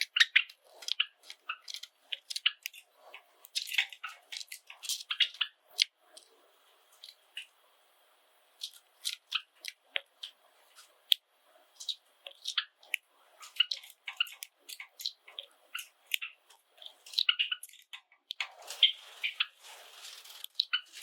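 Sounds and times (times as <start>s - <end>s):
sparrows chip calls: 0.0s - 6.2s, 8.6s - 11.0s, 11.6s - 21.0s.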